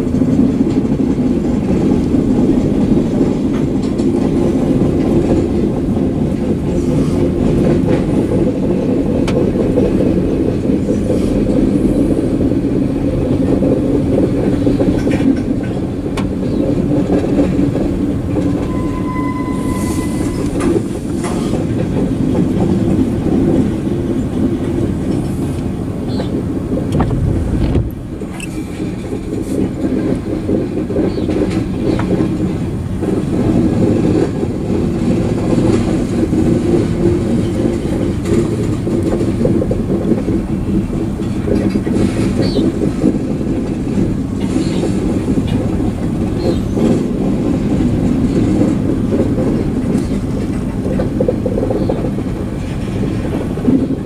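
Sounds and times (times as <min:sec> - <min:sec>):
steel wheels rumbling on rail: 0:00.0 - 0:54.0
wheels clicking over rail joints: 0:00.0 - 0:54.0.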